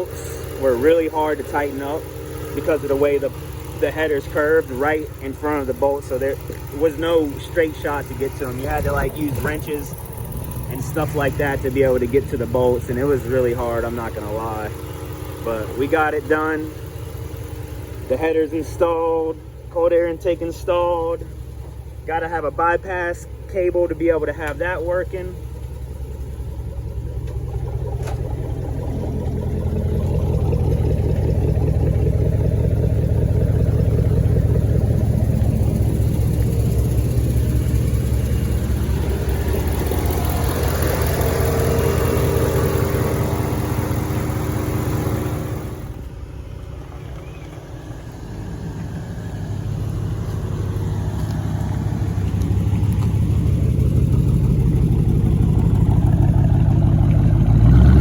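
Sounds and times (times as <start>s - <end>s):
vee eight engine running: 0.0s - 58.0s.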